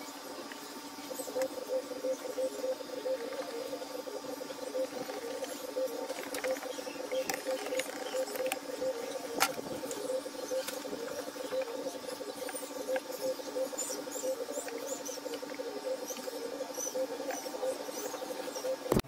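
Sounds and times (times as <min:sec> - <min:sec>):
pulsing chirp: 0:00.0 - 0:19.0.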